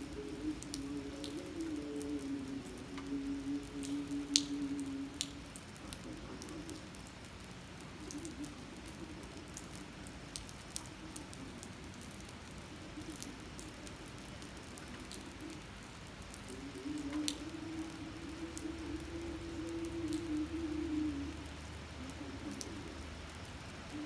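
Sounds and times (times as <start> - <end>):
rain on pavement: 0.0 - 24.0
raindrops ticking on microphone: 0.0 - 24.0.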